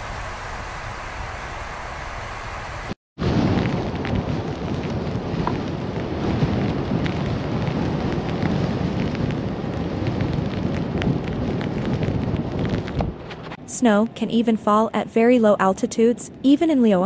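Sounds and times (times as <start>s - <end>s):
blizzard wind buffeting microphone: 0.0s - 17.0s.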